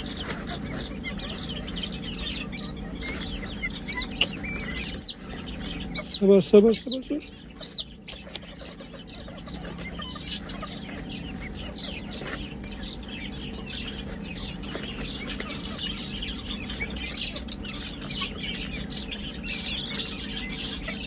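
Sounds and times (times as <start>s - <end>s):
young poultry chirping: 0.0s - 21.0s.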